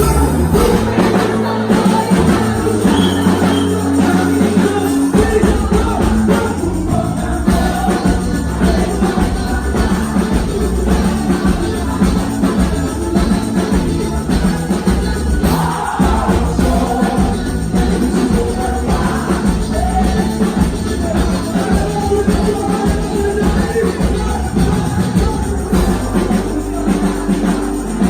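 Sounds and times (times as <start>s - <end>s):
loud music with singing: 0.0s - 28.0s.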